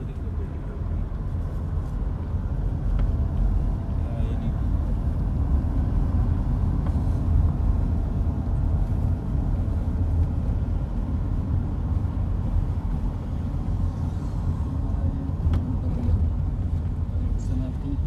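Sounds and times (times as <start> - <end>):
car engine and tyre rumble: 0.0 - 18.0.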